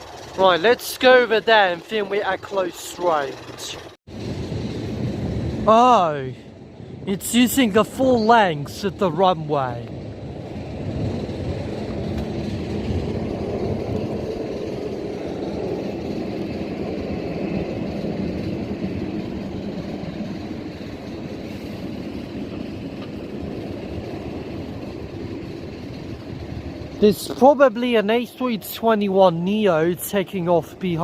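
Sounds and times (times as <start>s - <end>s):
distant jet engines rumbling: 0.0s - 31.0s.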